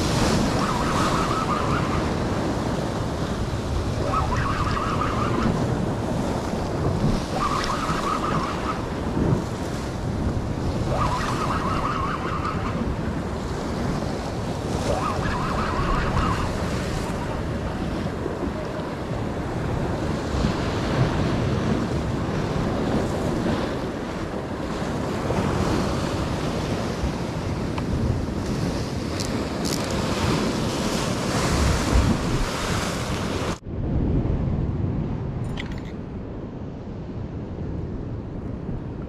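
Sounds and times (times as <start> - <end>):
waves washing on rocks: 0.0 - 33.6
wind buffeting microphone: 0.0 - 39.0.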